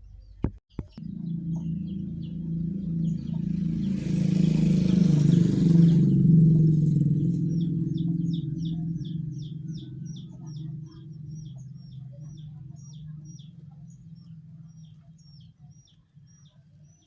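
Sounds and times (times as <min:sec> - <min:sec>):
small bird chirping rapidly: 0:00.1 - 0:17.0
passing vehicle drone: 0:01.0 - 0:15.4.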